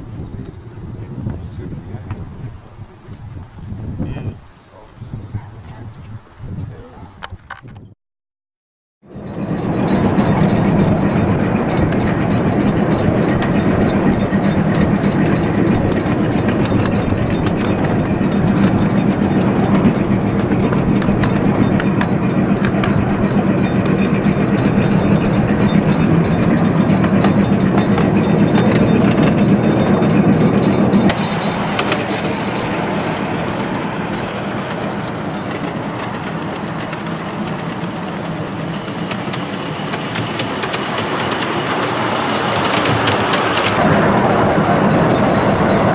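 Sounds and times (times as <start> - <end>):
miniature train low drone: 0.0 - 7.9, 9.0 - 45.9
wheels rattling on rails: 0.0 - 7.9, 9.0 - 45.9.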